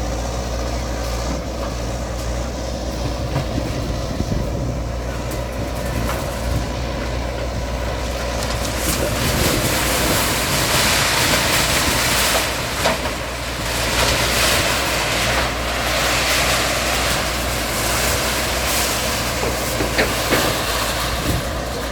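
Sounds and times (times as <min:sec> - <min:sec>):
diesel engine running: 0:00.0 - 0:21.9
dense rushing noise: 0:03.4 - 0:21.9.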